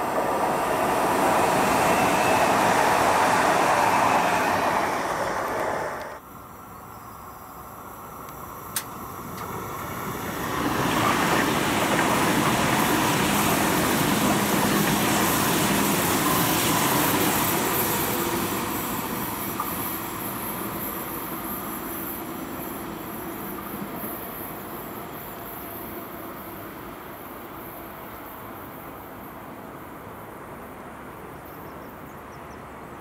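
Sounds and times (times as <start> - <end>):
high-speed train rushing past: 0.0 - 6.2, 7.8 - 31.4.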